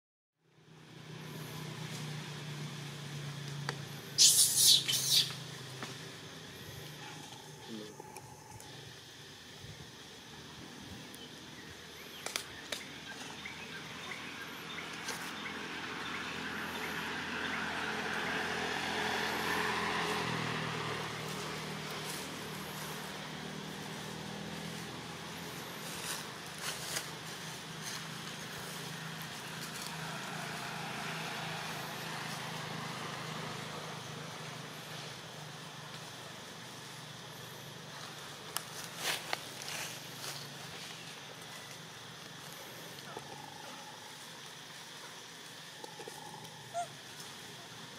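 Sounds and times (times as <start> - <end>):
vehicle engine noise: 0.4 - 47.9.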